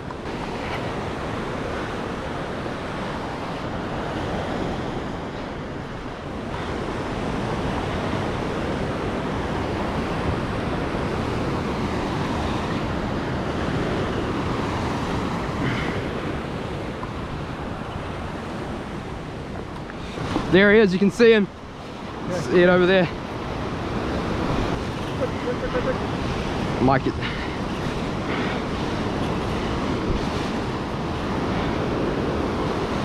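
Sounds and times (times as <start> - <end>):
sea waves washing against rocks: 0.0 - 33.0
wind buffeting microphone: 0.0 - 33.0.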